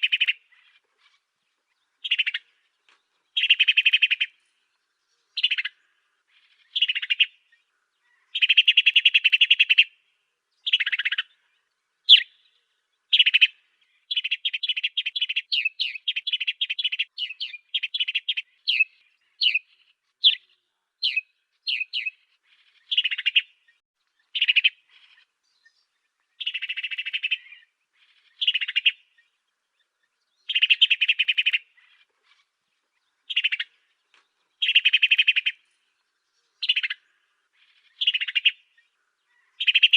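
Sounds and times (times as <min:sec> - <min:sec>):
sparrow singing: 0:00.0 - 0:39.9.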